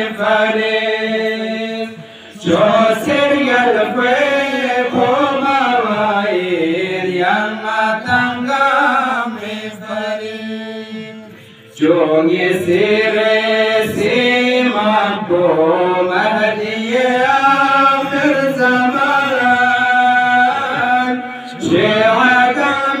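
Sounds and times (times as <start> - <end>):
man chanting unaccompanied: 0.0 - 23.0.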